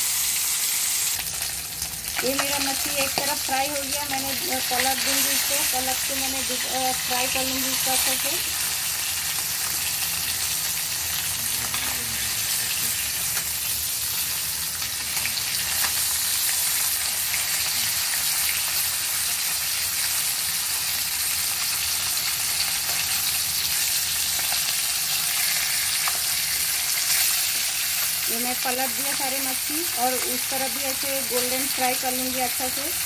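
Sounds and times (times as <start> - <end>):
fish sizzling in hot oil: 0.0 - 33.0.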